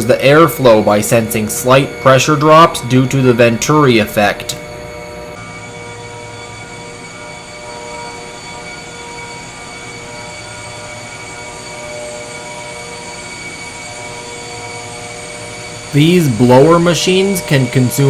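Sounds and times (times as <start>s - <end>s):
air blowers whining: 0.0s - 18.0s.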